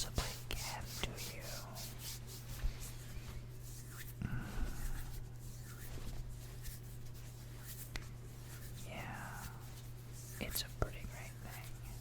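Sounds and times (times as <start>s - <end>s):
hands rubbing and rustling: 0.0s - 12.0s
low steady hum: 0.0s - 12.0s.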